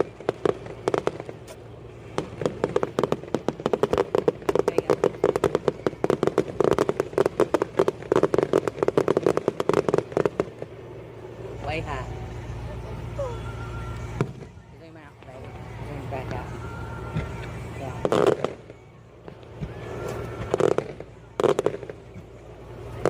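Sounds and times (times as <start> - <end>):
fireworks popping and banging: 0.0 - 12.1, 14.0 - 23.0.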